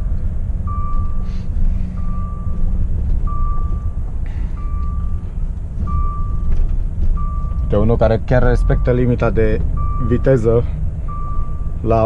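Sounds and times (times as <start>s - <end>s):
lorry engine rumble: 0.0s - 12.0s
reversing alarm beeping: 0.6s - 6.6s, 7.2s - 8.0s, 8.6s - 12.0s.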